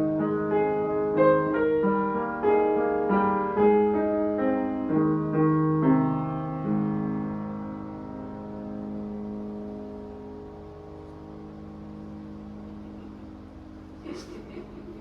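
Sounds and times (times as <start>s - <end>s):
slow gentle piano melody: 0.0s - 15.0s.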